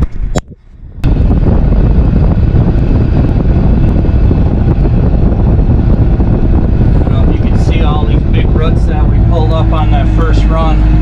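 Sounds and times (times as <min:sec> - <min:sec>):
tractor diesel engine drone: 0:00.0 - 0:11.0.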